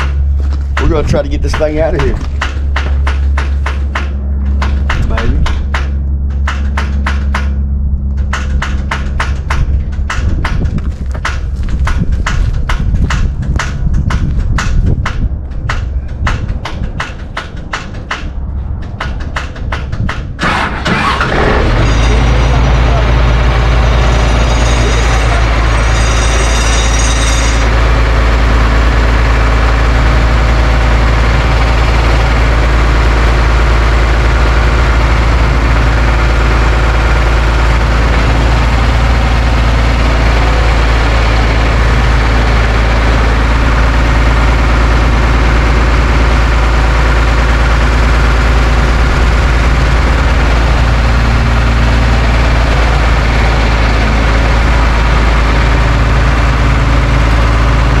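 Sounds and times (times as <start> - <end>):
heavy engine idling: 0.0 - 58.0.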